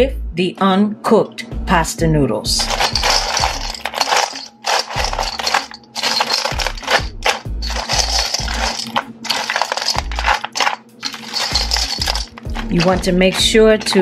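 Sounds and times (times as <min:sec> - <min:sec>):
dry pasta rattling in metal bowl: 0:02.6 - 0:14.0.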